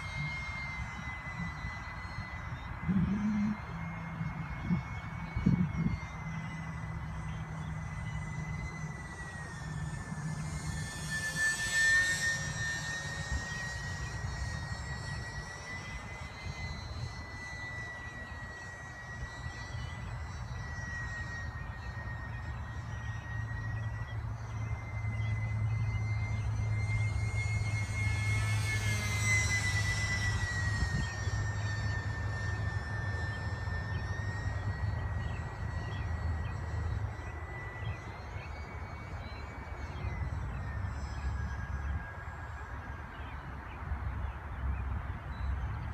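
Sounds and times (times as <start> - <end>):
model airplane motor whine: 0.0 - 45.9.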